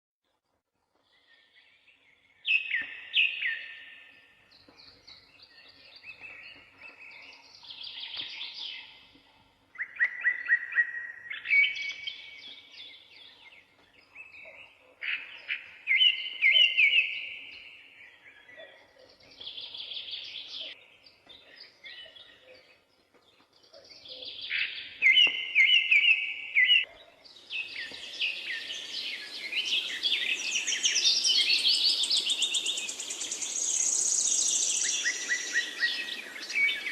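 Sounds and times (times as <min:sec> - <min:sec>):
songbirds singing: 0:00.9 - 0:36.9.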